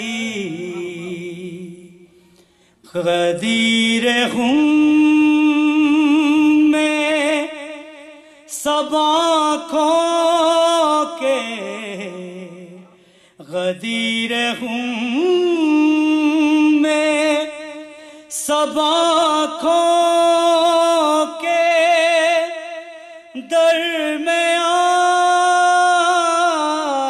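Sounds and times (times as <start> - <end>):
man chanting into a microphone: 0.0 - 27.0.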